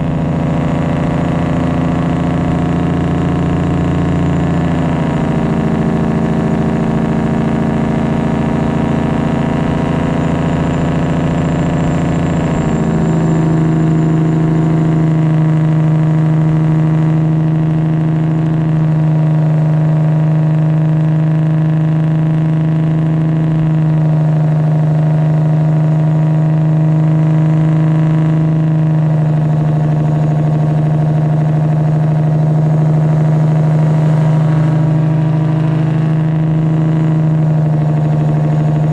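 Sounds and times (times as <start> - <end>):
diesel truck engine drone: 0.0 - 38.9.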